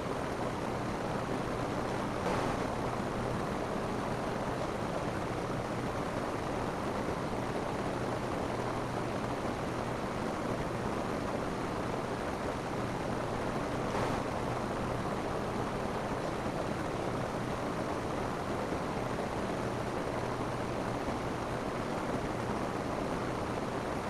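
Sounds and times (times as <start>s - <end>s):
rain on a roof: 0.0s - 24.0s.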